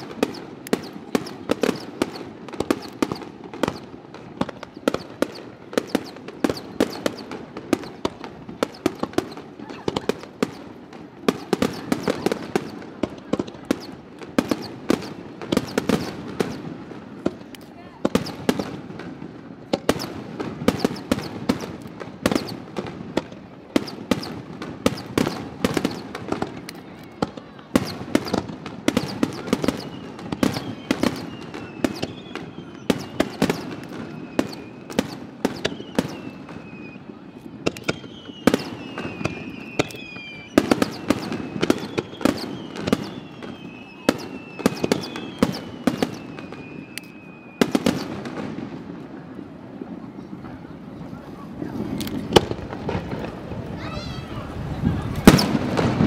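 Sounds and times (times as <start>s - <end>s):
falling fireworks whistles: 0.0s - 56.0s
fireworks bursting: 0.0s - 56.0s.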